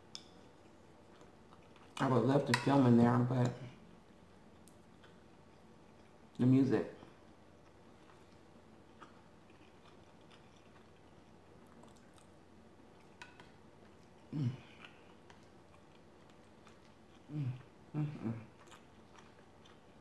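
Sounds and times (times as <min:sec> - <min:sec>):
faint chewing: 0:00.1 - 0:02.8, 0:04.5 - 0:06.4, 0:07.0 - 0:20.0.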